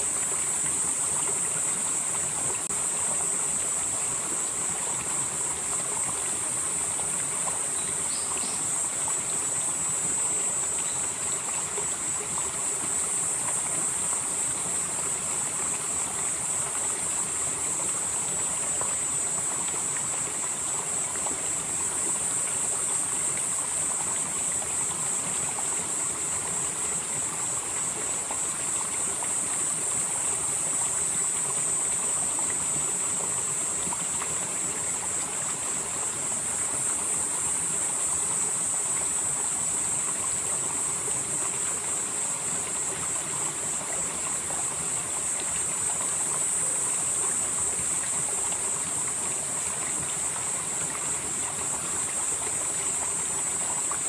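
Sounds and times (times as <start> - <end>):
insects chirring: 0.0 - 54.0
stream splashing over rocks: 0.0 - 54.0.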